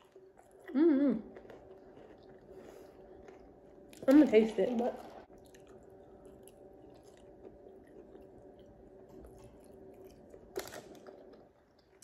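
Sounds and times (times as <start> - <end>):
person chewing: 0.0 - 4.1, 5.3 - 12.0.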